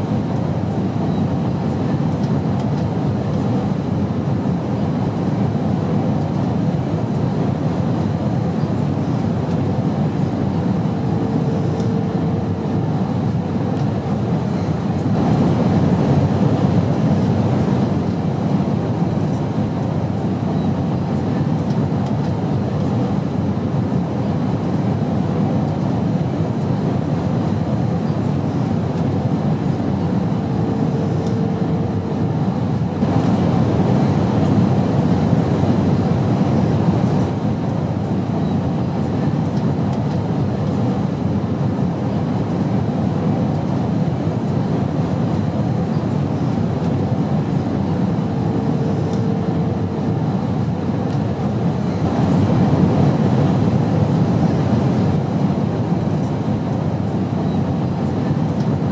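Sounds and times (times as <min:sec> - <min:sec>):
airplane in flight drone: 0:00.0 - 0:58.9.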